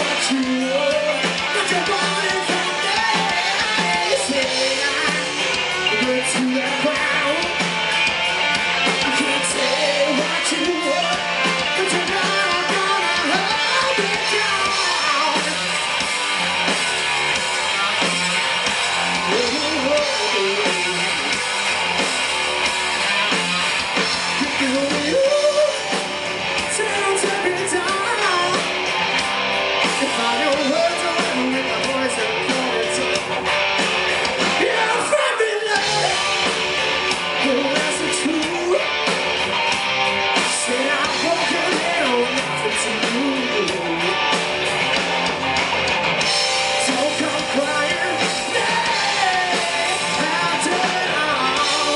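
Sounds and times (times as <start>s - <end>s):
person singing lead vocals: 0.0s - 8.1s, 8.8s - 16.0s, 18.7s - 21.6s, 24.0s - 28.8s, 29.8s - 39.2s, 40.4s - 44.4s, 46.6s - 51.9s
drums: 0.0s - 51.9s
electric guitars: 0.0s - 51.9s
rock band playing: 0.0s - 51.9s.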